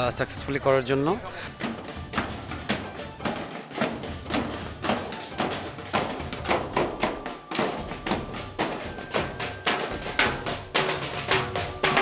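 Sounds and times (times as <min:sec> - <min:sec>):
marching drums beaten with sticks: 0:01.4 - 0:12.0.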